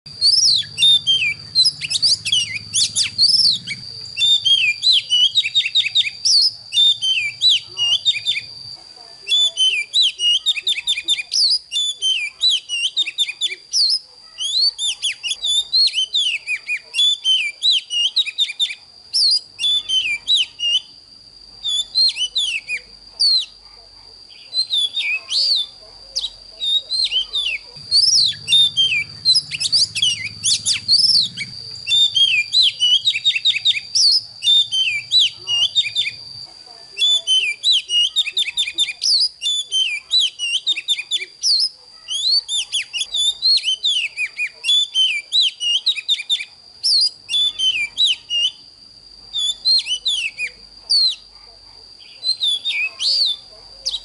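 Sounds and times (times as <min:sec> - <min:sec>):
bird singing whistled notes: 0:00.1 - 0:08.6, 0:09.2 - 0:21.0, 0:21.6 - 0:23.6, 0:24.3 - 0:48.7, 0:49.3 - 0:51.3, 0:52.0 - 0:54.0.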